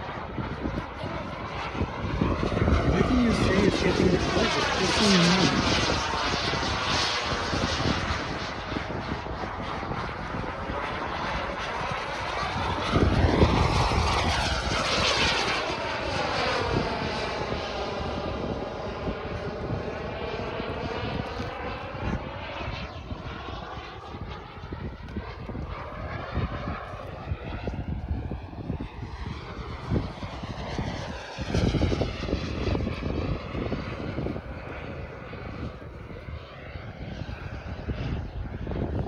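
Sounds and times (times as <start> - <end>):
model jet rushing past: 0.0 - 39.0.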